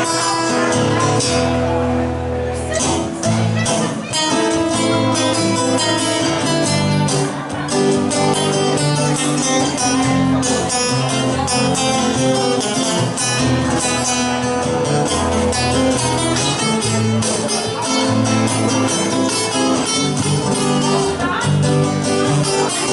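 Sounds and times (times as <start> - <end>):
lead guitar picking melody: 0.0 - 22.9
rhythm guitar strumming chords: 0.0 - 22.9.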